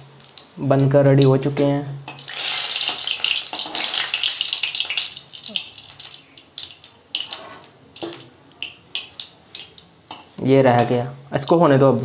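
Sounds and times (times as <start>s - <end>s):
hot oil sizzling: 0.0s - 11.6s.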